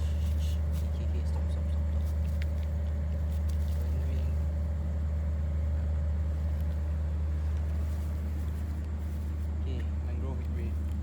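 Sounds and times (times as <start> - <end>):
faint even hum: 0.0 - 11.0.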